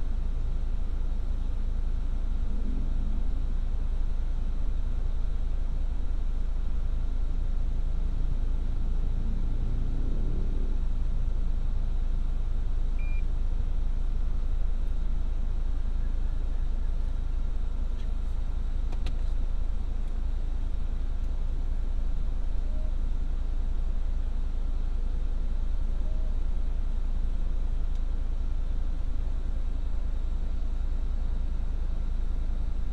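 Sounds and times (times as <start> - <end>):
car engine rumble: 0.0 - 32.9
road noise: 0.0 - 32.9.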